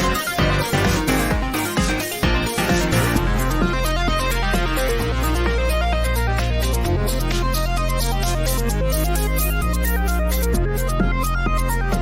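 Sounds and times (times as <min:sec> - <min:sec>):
electronic music with pulsing beat: 0:00.0 - 0:12.0.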